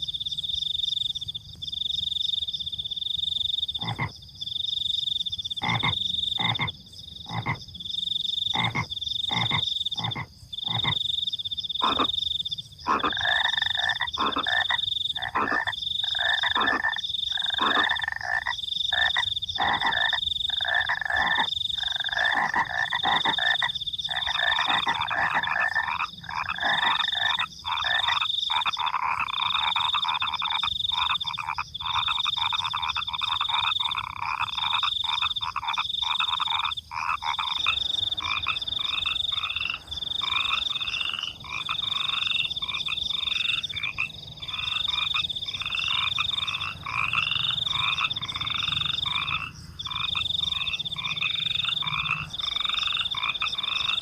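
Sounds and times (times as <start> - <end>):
crickets chirping: 0.0 - 54.0
frogs croaking: 0.0 - 54.0.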